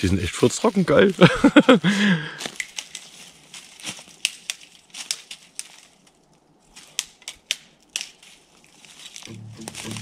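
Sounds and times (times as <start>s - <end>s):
dry leaves and twigs crackling: 0.0s - 10.0s.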